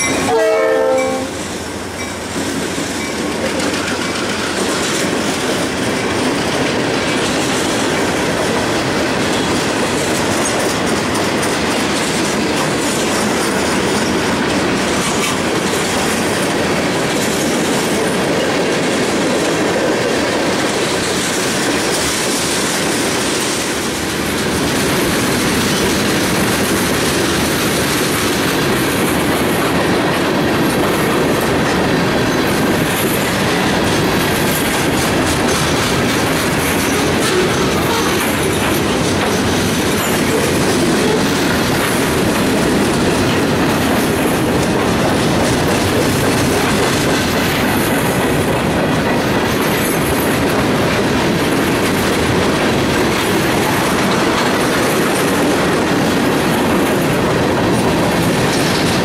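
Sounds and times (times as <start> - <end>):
diesel locomotive passing: 0.0 - 59.0
train wheels rumbling on rails: 0.0 - 59.0.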